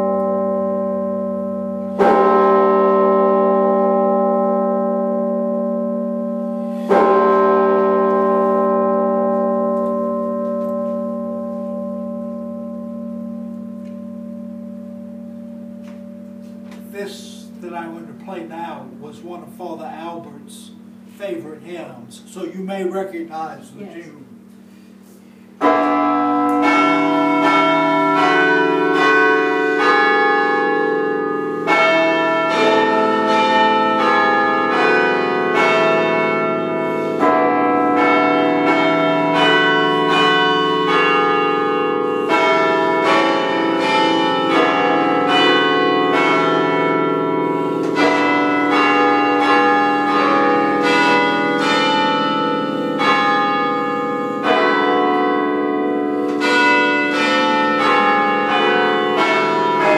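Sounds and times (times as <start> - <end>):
carillon bells playing melody: 0.0 - 24.1, 25.6 - 59.9.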